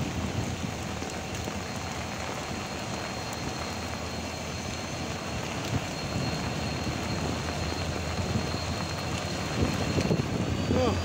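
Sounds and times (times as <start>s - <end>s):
diesel locomotive engine running: 0.0s - 11.0s
heavy rain hissing: 0.0s - 11.0s.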